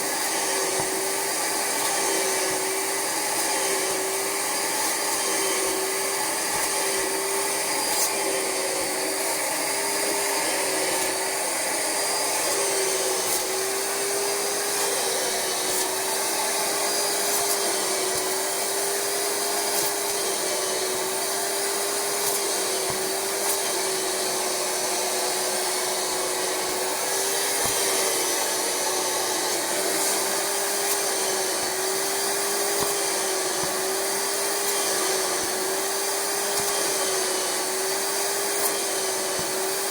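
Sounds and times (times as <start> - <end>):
carpet cleaner suction motor: 0.0 - 39.9.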